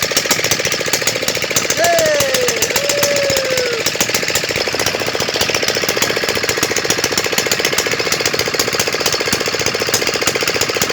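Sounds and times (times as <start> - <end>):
diesel engine knocking: 0.0 - 10.9.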